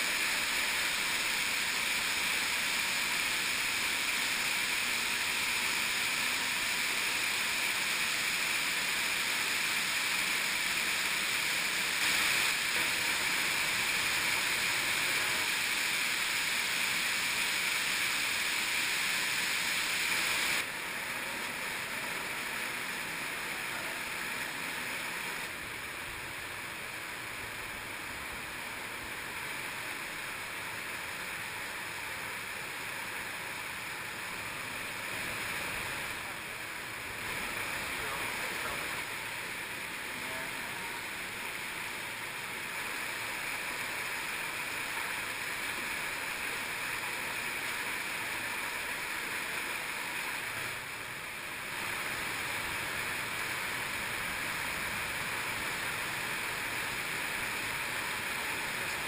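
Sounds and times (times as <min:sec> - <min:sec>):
flowing stream water: 0:00.0 - 0:59.0
waterfall rushing into pool: 0:00.0 - 0:59.0.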